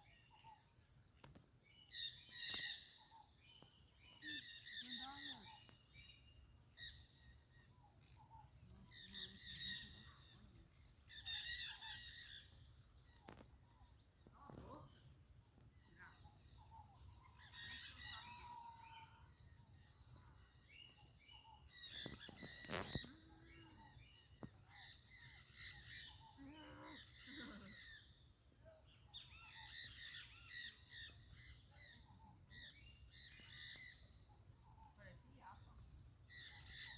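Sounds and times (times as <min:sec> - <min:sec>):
high-pitched insect drone: 0:01.2 - 0:28.4, 0:29.1 - 0:36.9.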